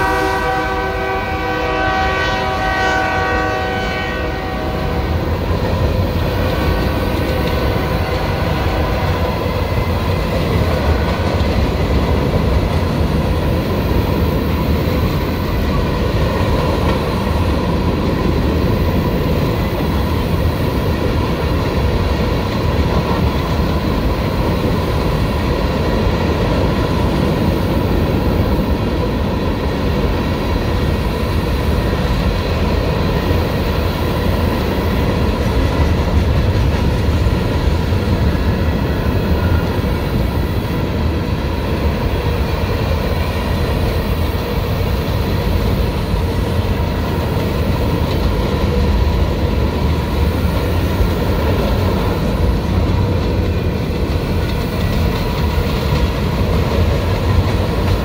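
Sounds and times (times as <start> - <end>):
freight car wheels rumbling on rails: 5.2 - 58.0.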